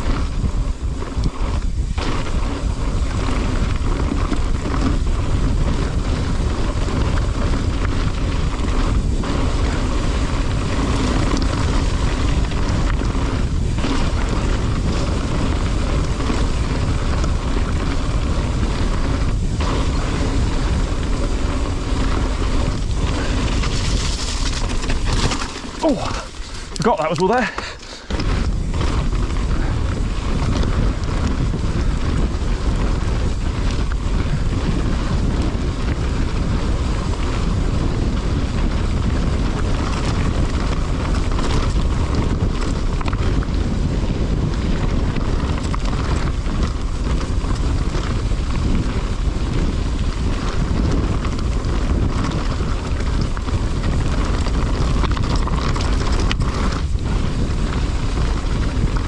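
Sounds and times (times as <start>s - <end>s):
bike tyre and trail noise: 0.0s - 59.0s
wind buffeting microphone: 0.0s - 59.0s
bike knocking over rough ground: 1.0s - 59.0s.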